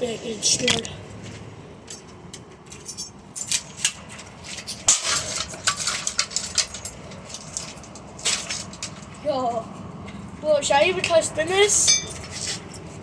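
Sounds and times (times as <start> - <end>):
fan parts clinking and clattering: 0.0 - 13.0.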